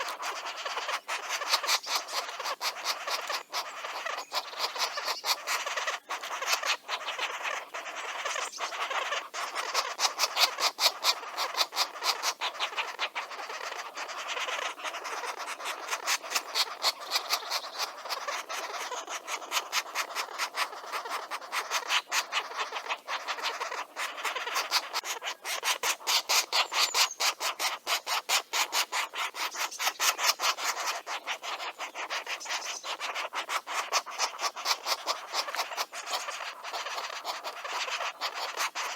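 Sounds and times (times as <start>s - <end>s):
nestlings begging calls: 0.0s - 38.9s.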